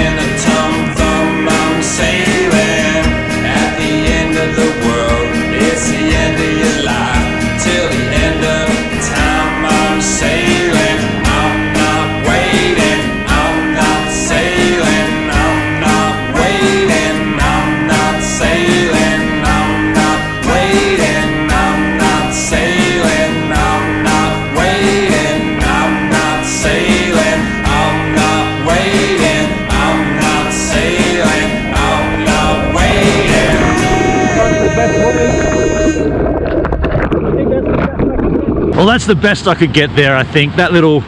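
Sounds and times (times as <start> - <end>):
country folk song with guitar: 0.0 - 39.6.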